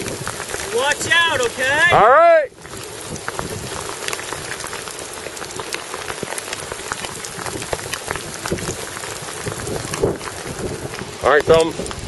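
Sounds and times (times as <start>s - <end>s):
heavy rain and hail on rock: 0.0s - 12.0s.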